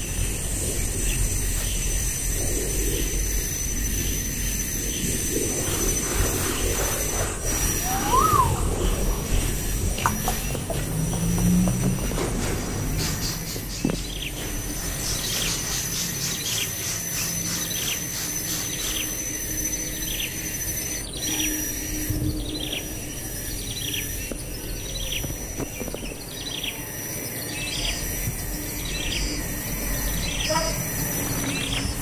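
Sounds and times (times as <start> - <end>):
high-pitched insect drone: 0.0 - 11.7, 13.0 - 32.0.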